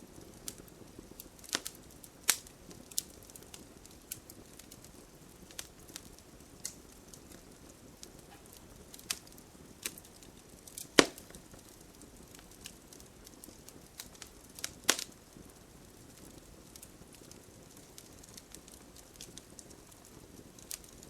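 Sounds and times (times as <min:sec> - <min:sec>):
faint steady fire hiss: 0:00.0 - 0:21.0
wood crackling and popping: 0:00.0 - 0:21.0.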